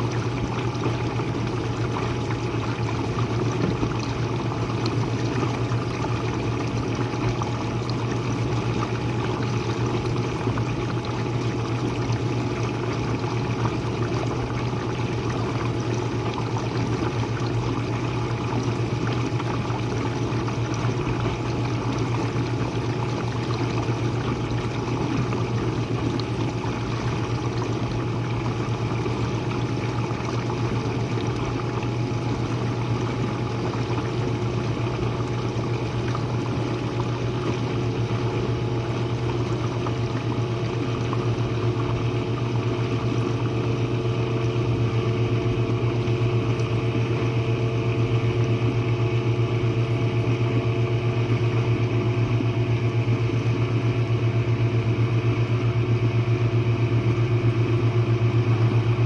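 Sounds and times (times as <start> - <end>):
pump motor hum: 0.0 - 59.0.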